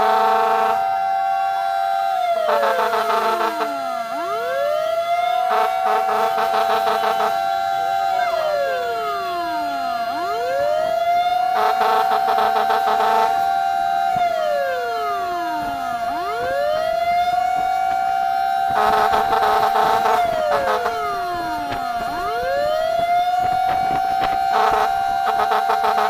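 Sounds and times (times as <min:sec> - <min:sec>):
fire truck siren wailing: 0:00.0 - 0:26.0
rapidly pulsing horn tone: 0:00.0 - 0:26.0
steady siren tone: 0:00.0 - 0:26.0.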